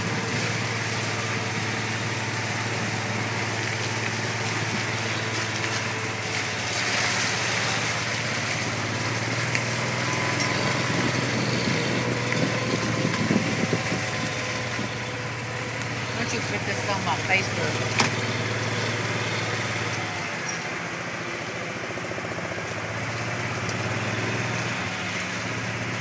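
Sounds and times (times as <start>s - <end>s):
small vehicle engine running: 0.0s - 26.0s
vehicle ride rattle: 0.0s - 26.0s.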